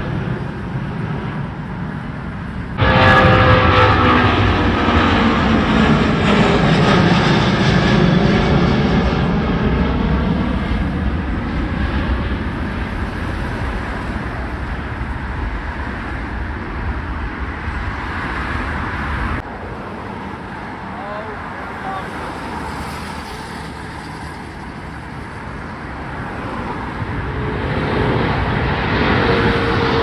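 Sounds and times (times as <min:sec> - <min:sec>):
jet airliner engines at takeoff: 0:00.0 - 0:30.0.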